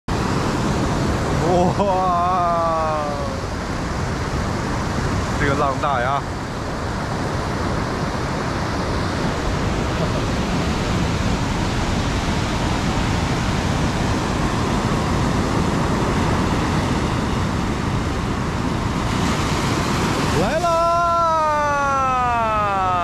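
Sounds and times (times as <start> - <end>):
ocean surf washing up beach: 0.1 - 23.0.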